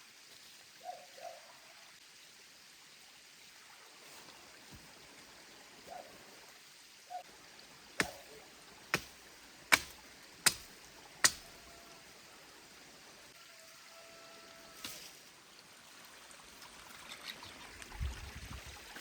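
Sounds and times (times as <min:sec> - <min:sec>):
stream running: 0:00.0 - 0:19.0.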